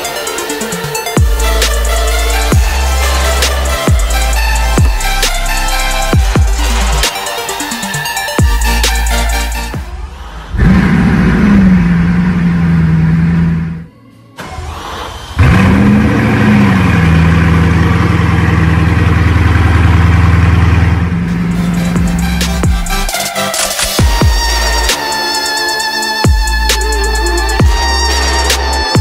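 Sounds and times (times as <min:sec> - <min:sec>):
car engine starting and idling: 0:00.0 - 0:29.0.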